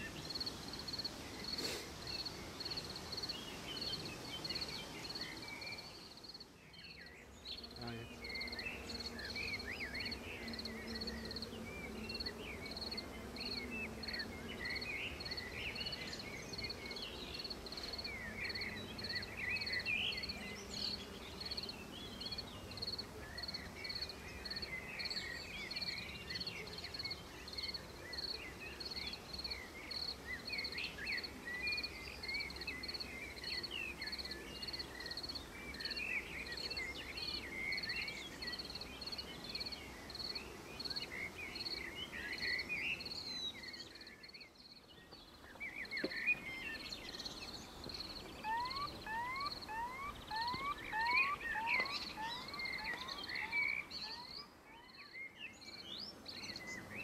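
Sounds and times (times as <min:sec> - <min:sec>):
small birds singing: 0:00.0 - 0:57.0.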